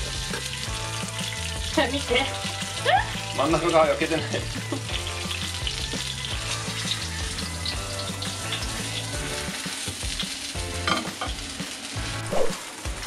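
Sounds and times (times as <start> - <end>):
oil sizzling in a frying pan: 0.0 - 13.0.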